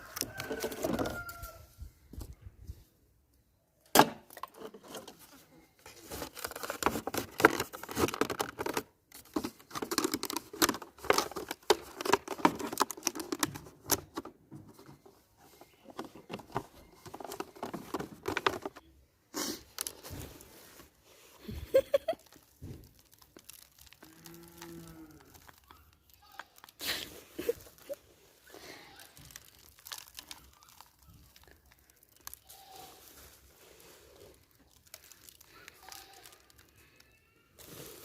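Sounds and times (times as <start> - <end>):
plastic bottle clicking and crinkling: 0.0 - 1.4, 3.8 - 18.9, 21.5 - 33.5, 34.3 - 38.0.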